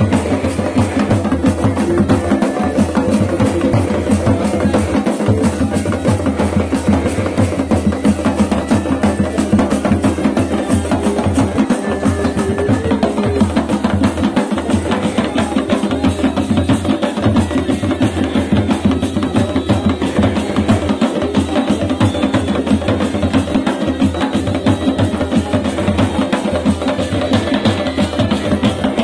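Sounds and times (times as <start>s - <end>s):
bagpipes drone and melody: 0.0s - 29.0s
drums beating fast rhythm: 0.0s - 29.0s.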